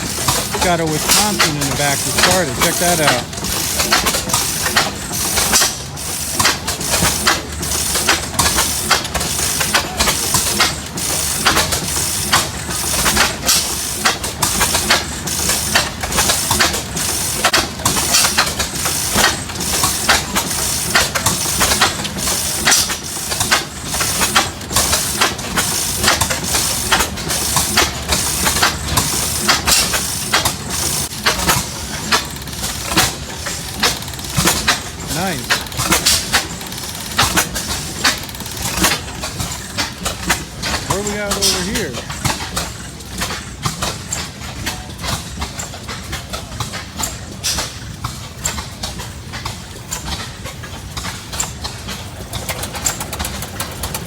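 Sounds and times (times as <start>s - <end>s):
gas engine exhaust chuffing: 0.0s - 44.7s, 50.8s - 54.0s.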